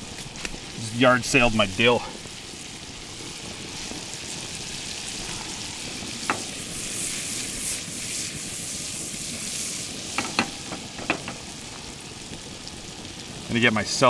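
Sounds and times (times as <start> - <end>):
fish sizzling in a frying pan: 0.0 - 14.0.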